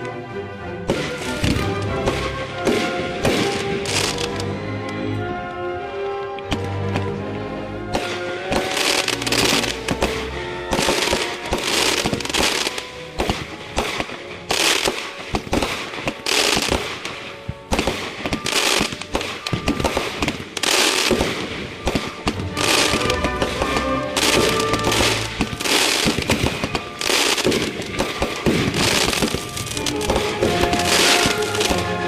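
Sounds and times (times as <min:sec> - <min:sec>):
background music: 0:00.0 - 0:32.0
fireworks bangs and crackling: 0:00.8 - 0:04.5, 0:07.9 - 0:32.0.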